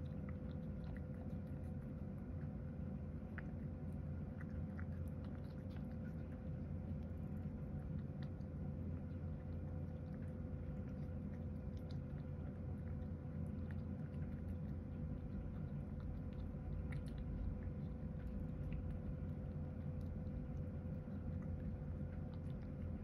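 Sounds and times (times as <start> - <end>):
cat chewing and licking: 0.0 - 23.0
steady low hum: 0.0 - 23.0.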